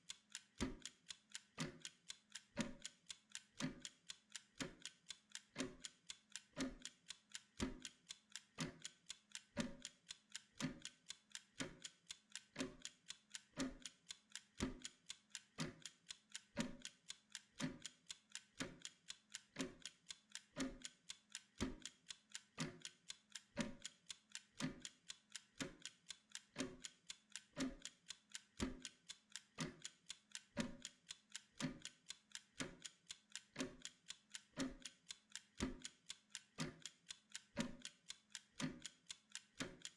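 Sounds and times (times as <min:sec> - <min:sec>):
wind-up kitchen timer ticking: 0:00.0 - 0:39.9.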